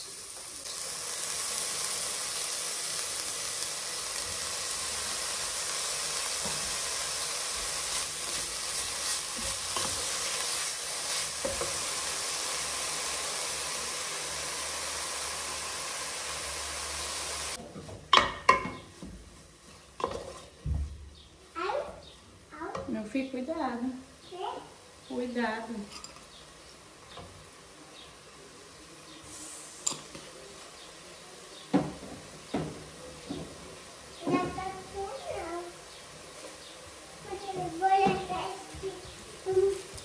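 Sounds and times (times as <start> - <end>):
chicken sizzling in a pot: 0.0 - 40.0.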